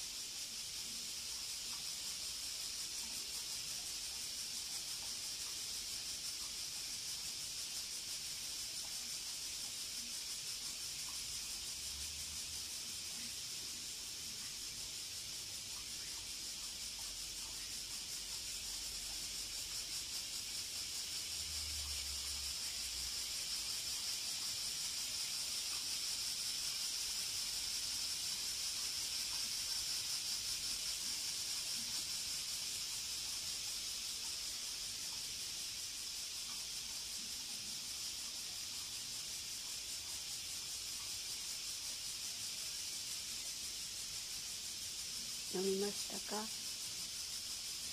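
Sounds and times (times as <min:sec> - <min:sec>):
cicadas singing: 0:00.0 - 0:47.9.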